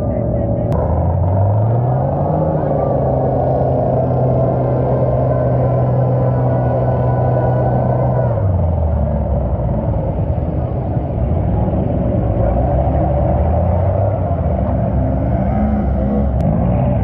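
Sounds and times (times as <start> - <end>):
truck engine running hard: 0.0 - 17.0
mud tyres churning through mud: 0.7 - 17.0.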